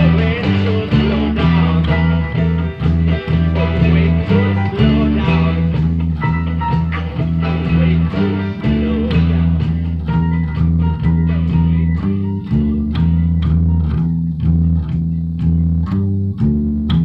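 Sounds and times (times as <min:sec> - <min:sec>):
rock band playing: 0:00.0 - 0:15.0
electric bass line: 0:00.0 - 0:17.0.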